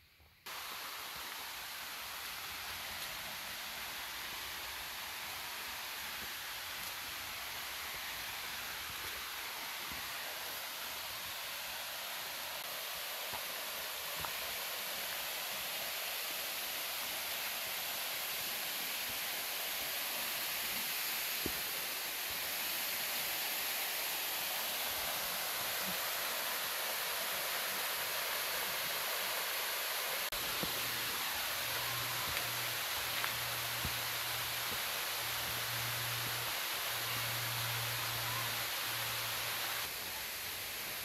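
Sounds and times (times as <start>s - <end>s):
waterfall rushing: 0.5s - 41.0s.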